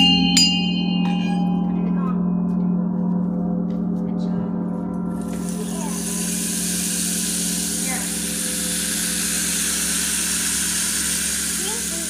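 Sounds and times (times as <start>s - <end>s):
gong ringing: 0.0s - 12.0s.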